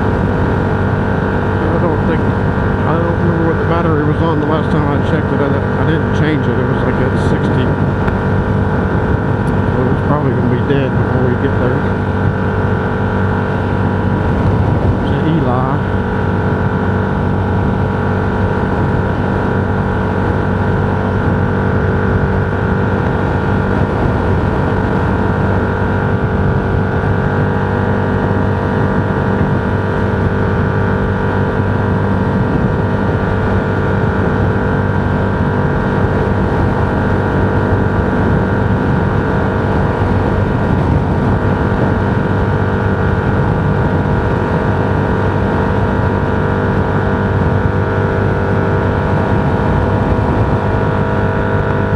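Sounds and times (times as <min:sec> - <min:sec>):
road vehicle engine and road noise: 0:00.0 - 0:51.9.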